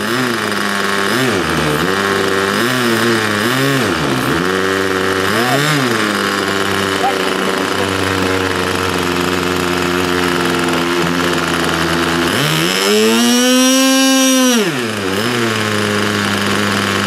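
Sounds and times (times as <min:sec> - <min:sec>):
model boat engine idling and revving: 0:00.0 - 0:17.0.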